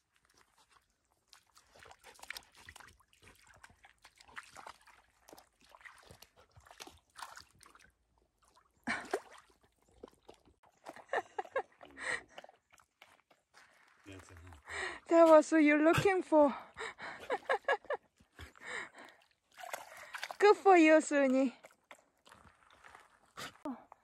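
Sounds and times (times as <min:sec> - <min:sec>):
dog lapping water: 0:00.0 - 0:24.0.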